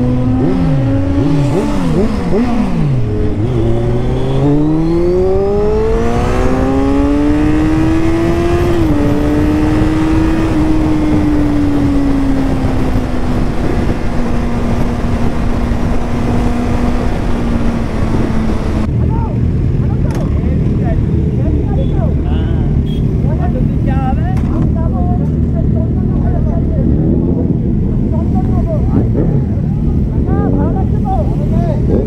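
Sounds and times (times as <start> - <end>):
heavy wind noise: 0.0 - 32.0
motorcycle engine accelerating: 0.0 - 32.0.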